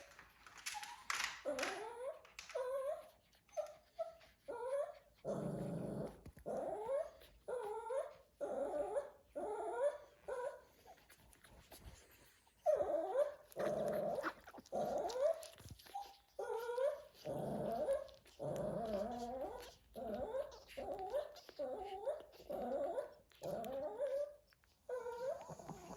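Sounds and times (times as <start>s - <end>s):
dog whining: 0.6s - 25.9s.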